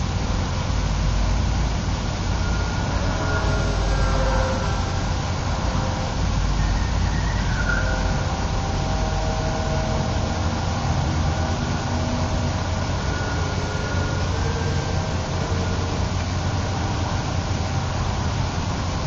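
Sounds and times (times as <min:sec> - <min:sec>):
model airplane propellers whining: 0:00.0 - 0:19.0
steady low rumble: 0:00.0 - 0:19.0.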